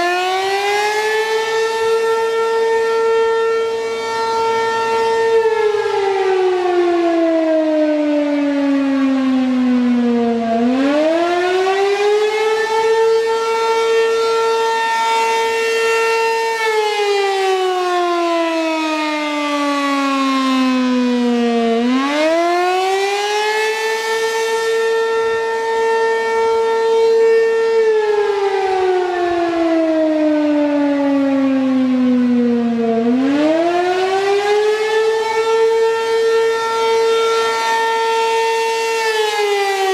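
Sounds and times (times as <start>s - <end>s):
wailing warning siren: 0.0s - 39.9s.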